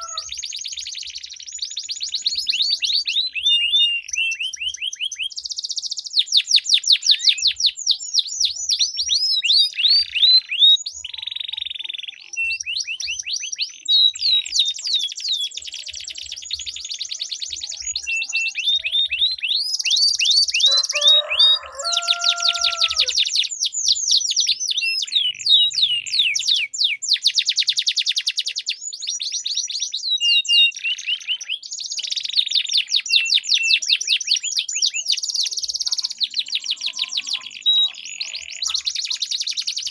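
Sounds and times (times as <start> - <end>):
canaries trilling: 0.0 - 39.9.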